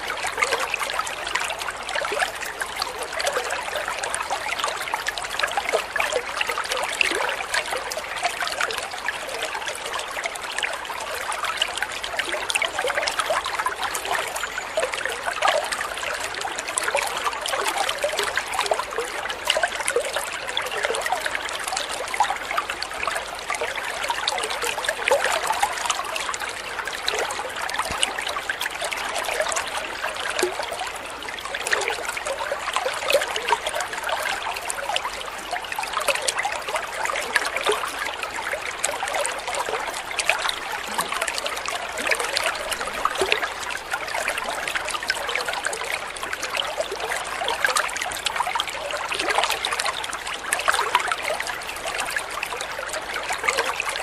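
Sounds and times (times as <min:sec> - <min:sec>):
water trickling and splashing into pond: 0:00.0 - 0:54.0.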